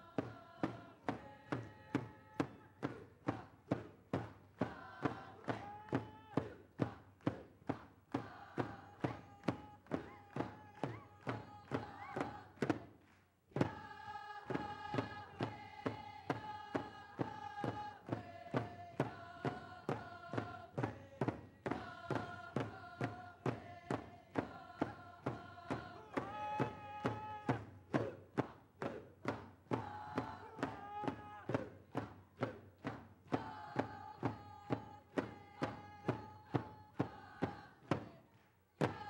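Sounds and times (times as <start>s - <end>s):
drum beaten steadily: 0.0s - 12.9s, 13.6s - 39.0s
group singing long notes: 0.0s - 12.9s, 13.6s - 39.0s.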